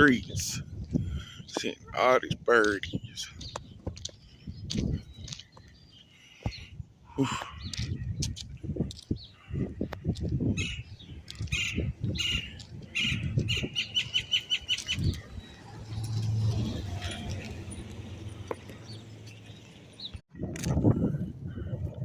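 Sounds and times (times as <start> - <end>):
birds chirping: 0.0 - 20.2.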